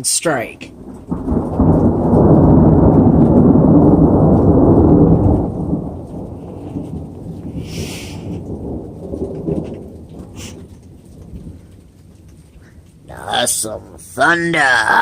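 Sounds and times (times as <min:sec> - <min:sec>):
thunder rumbling: 0:00.0 - 0:15.0.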